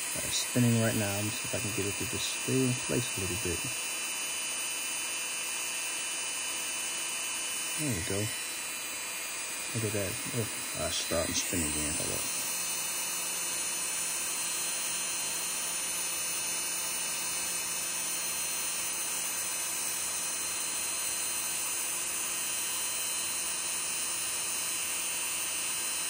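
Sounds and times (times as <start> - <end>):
rotary tool motor whine: 0.0 - 26.0.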